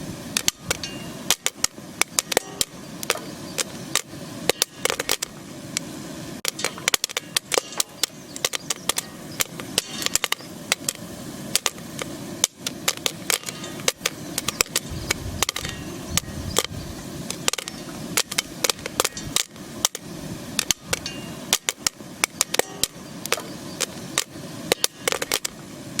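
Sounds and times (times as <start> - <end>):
popcorn popping in a metal skillet: 0.0 - 26.0
kernels bouncing off pan: 0.4 - 5.3, 6.4 - 16.7, 17.3 - 20.0, 20.6 - 25.6.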